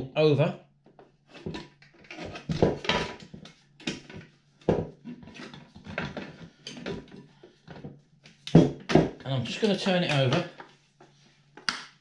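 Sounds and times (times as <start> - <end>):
plastic parts clicking and knocking: 0.9 - 10.7.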